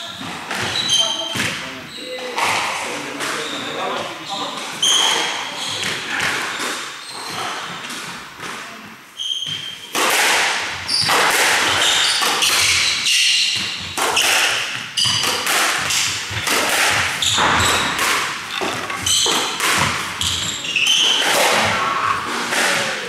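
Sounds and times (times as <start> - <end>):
shoes squeaking on wooden floor: 0.0 - 9.9, 10.7 - 22.9
squash ball hitting rackets and walls: 0.0 - 23.0.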